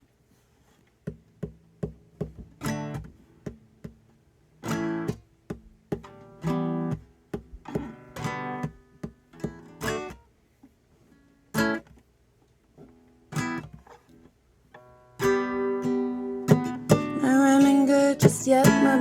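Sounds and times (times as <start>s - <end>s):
acoustic guitar plucking and strumming: 1.0s - 10.3s, 11.1s - 12.1s, 12.8s - 19.0s.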